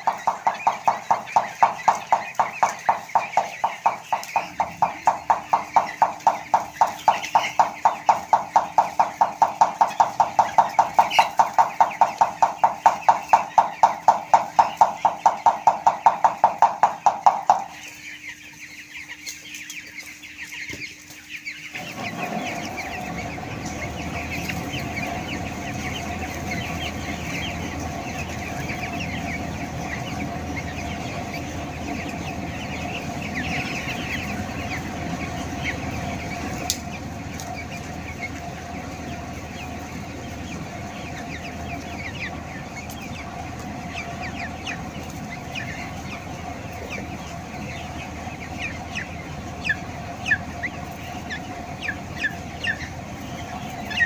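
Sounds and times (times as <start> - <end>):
steady hum: 0.0 - 20.2, 21.6 - 54.0
chickens cheeping and clucking: 0.0 - 54.0.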